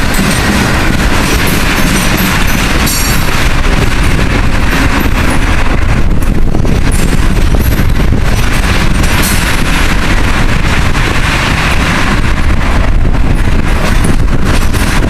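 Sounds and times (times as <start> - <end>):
train rumble: 0.0 - 15.0
train wheels clattering over rails: 0.0 - 15.0.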